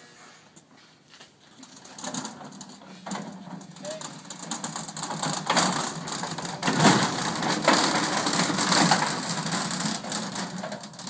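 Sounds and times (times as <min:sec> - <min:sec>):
caster wheels rolling on concrete: 0:00.2 - 0:11.0.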